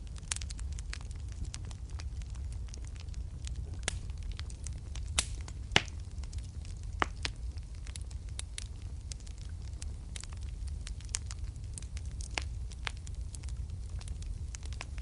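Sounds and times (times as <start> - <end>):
loud fire pops: 0.0 - 15.0
low rumble of flames: 0.0 - 15.0
wood fire crackling: 0.0 - 15.0.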